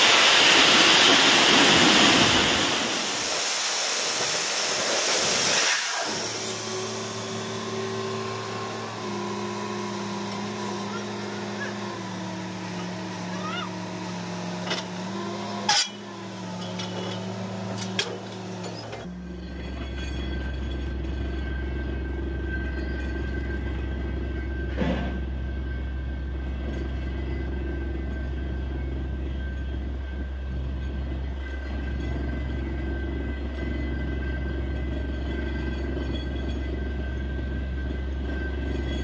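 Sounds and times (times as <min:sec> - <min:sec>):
drilling rig droning: 0:00.0 - 0:39.0.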